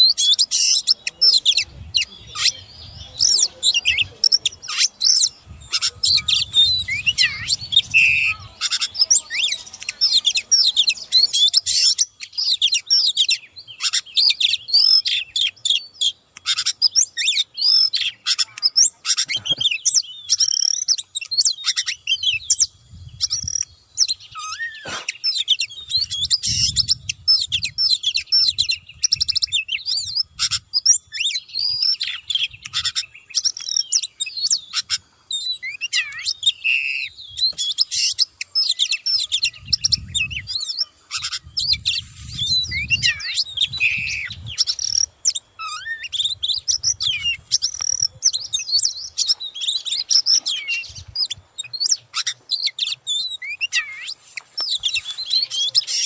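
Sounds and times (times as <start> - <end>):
bird singing varied whistles: 0.0 - 56.0.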